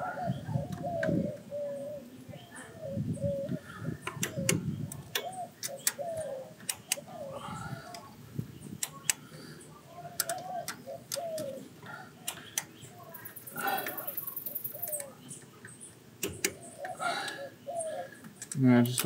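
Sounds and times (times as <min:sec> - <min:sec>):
dove cooing: 0:00.0 - 0:08.2, 0:09.0 - 0:15.2, 0:16.4 - 0:18.4.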